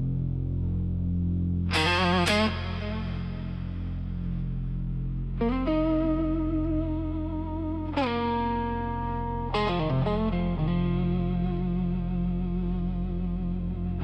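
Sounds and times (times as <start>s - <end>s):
electric guitar chords ringing: 0.0s - 14.0s
low bass drone: 0.0s - 14.0s.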